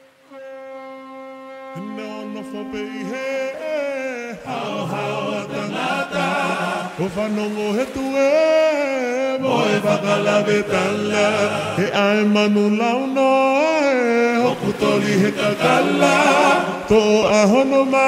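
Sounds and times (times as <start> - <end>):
choir singing in harmony: 2.0 - 8.2, 8.8 - 18.0.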